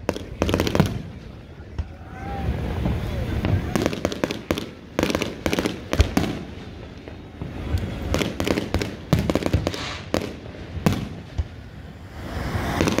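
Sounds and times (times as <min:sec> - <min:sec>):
fireworks bangs: 0:00.0 - 0:13.0
fireworks hissing crackle: 0:00.0 - 0:13.0.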